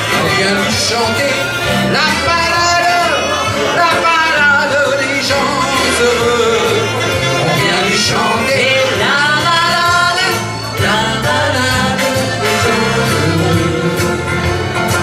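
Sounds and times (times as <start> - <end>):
woman singing: 0.0 - 14.3
accordion: 0.0 - 15.0
steady bass notes: 0.0 - 15.0.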